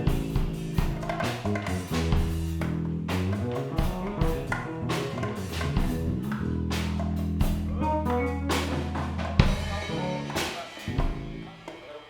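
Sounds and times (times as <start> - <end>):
bass guitar: 0.0 - 11.6
electric guitar: 0.0 - 11.8
band playing instrumental music: 0.0 - 12.0
drum kit beat: 0.0 - 12.0.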